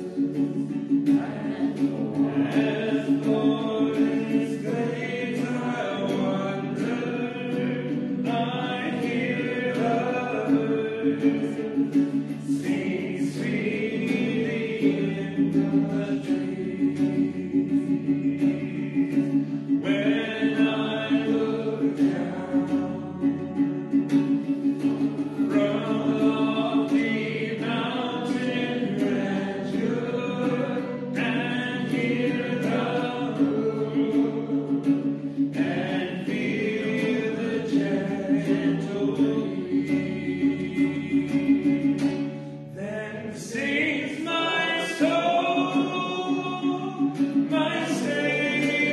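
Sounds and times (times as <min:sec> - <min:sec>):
voices singing a hymn: 0:00.0 - 0:48.9.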